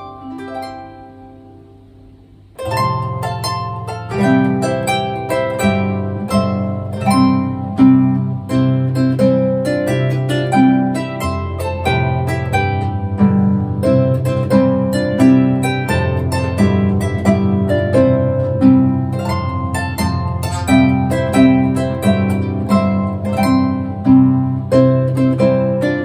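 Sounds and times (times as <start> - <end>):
harp music: 0.0 - 26.0.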